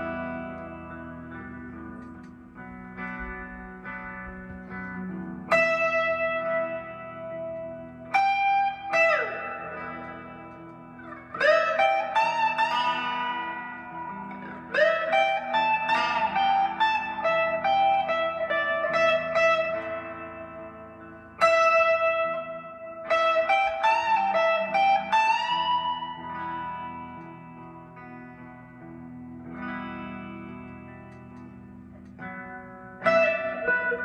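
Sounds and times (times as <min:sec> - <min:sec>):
electric guitar blues lead: 0:00.0 - 0:34.0
looped backing chords: 0:00.0 - 0:34.0.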